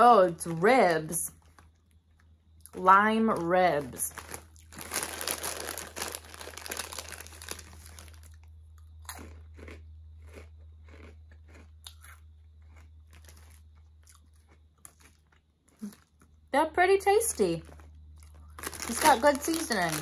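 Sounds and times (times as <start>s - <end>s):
person crunching chips: 0.0s - 16.4s, 17.2s - 20.0s.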